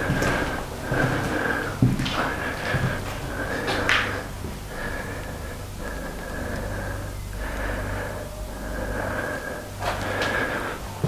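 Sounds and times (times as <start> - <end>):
person breathing close to microphone: 0.0 - 11.0.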